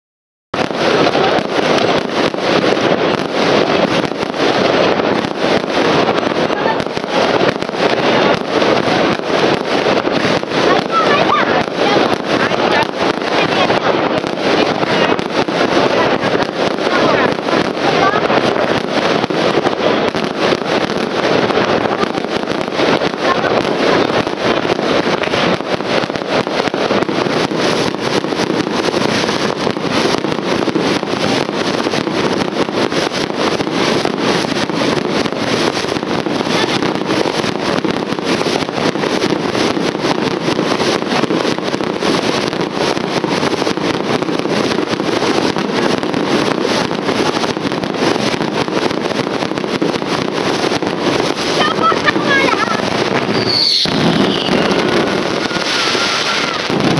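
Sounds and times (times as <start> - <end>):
fireworks bangs and crackling: 0.6 - 56.9.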